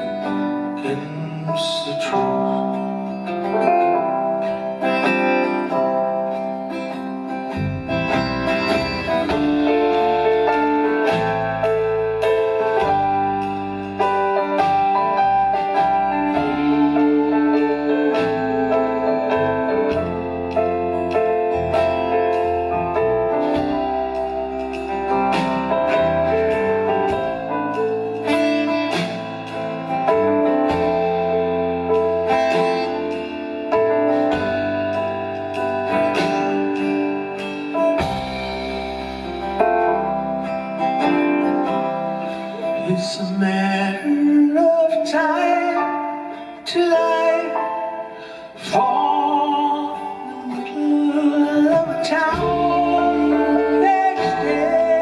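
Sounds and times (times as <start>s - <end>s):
lead guitar: 0.0s - 55.0s
rock band playing instrumental: 0.0s - 55.0s.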